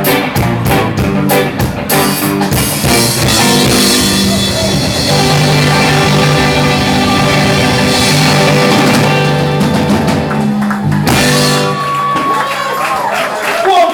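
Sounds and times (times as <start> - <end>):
rock band playing: 0.0 - 13.4.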